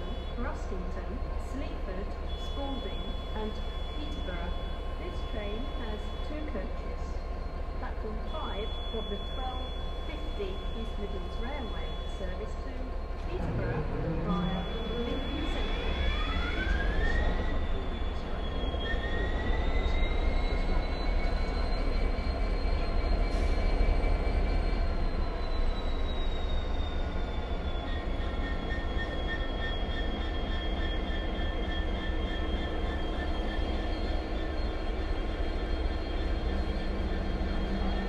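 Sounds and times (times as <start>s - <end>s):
diesel locomotive engine rumble: 0.0s - 38.0s
high engine whine: 0.0s - 38.0s.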